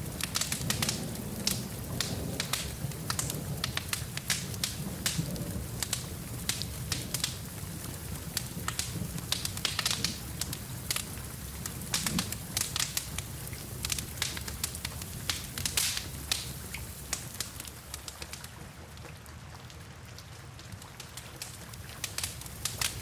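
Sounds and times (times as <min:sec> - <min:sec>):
fire low rumble: 0:00.0 - 0:18.5, 0:21.1 - 0:23.0
fire pops and snaps: 0:00.0 - 0:18.5, 0:20.6 - 0:23.0.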